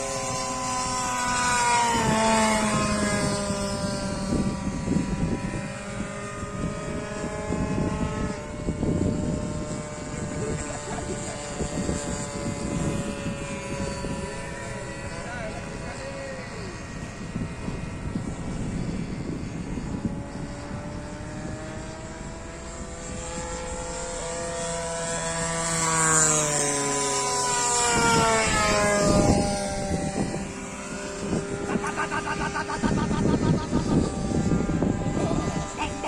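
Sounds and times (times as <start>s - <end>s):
model plane motor whining: 0.0s - 36.0s
wind gusts on microphone: 0.0s - 36.0s.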